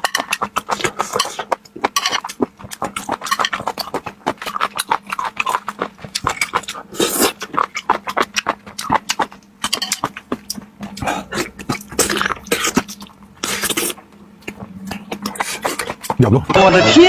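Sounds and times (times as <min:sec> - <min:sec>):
wet chewing smacks and clicks: 0:00.0 - 0:16.6.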